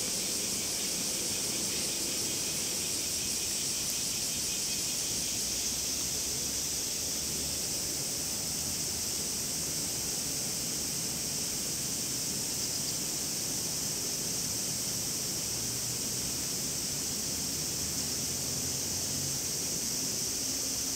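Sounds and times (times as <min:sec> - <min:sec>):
cicadas droning: 0:00.0 - 0:20.9.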